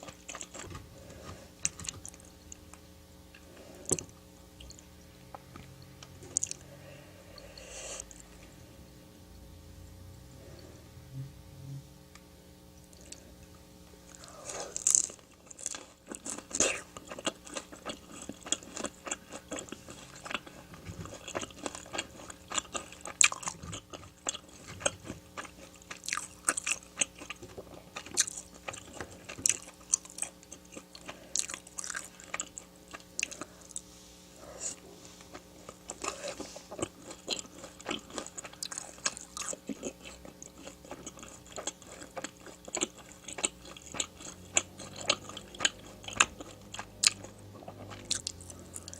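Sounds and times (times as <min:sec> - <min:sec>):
crunchy food chewing: 0:00.0 - 0:06.7, 0:12.8 - 0:48.9.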